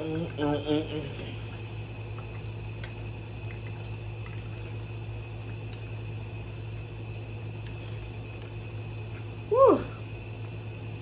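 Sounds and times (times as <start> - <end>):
chewing and mouth sounds: 0.0 - 9.4
steady low hum: 0.0 - 11.0.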